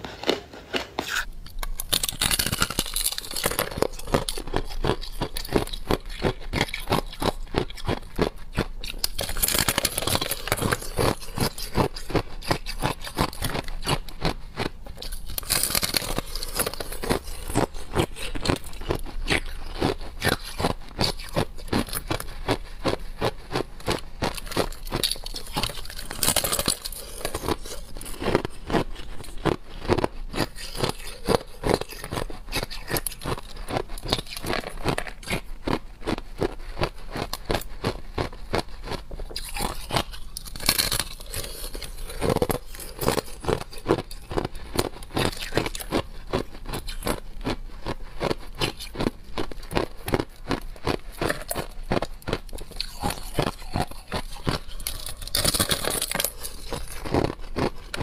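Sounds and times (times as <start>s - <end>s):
chewing crunchy shaved ice: 0.0s - 58.0s.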